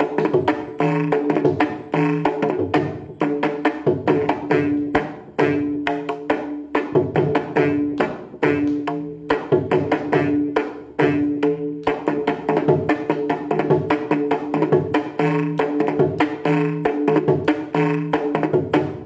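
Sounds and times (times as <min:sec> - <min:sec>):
mridangam drum strokes: 0:00.0 - 0:19.0.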